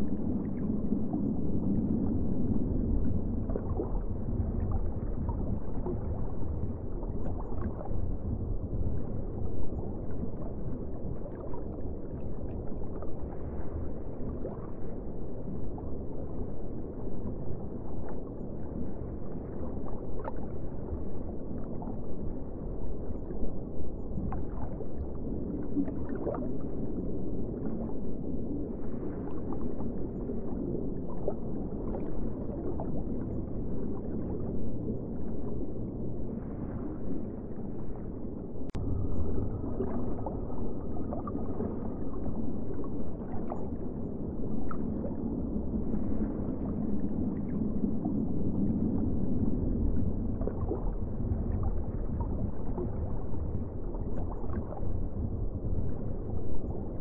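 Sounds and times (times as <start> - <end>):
underwater rush of water: 0.0 - 57.0.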